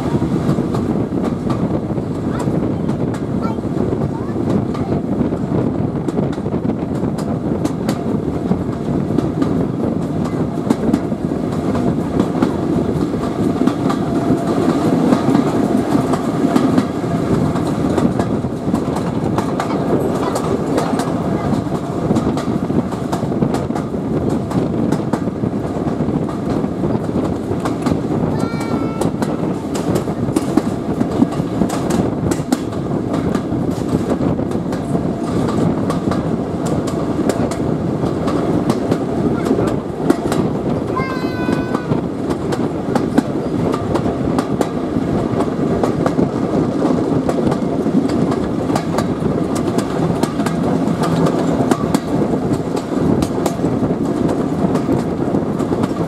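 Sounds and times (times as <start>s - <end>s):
train wheels rumbling and clicking: 0.0s - 56.0s
wind noise: 0.0s - 56.0s.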